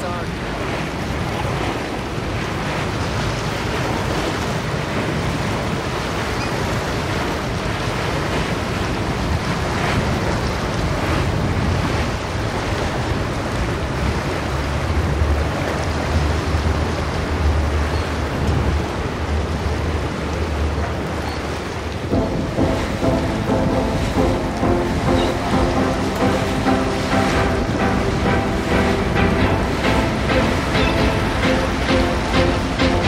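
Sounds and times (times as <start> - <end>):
water rushing from boat wake: 0.0 - 33.0.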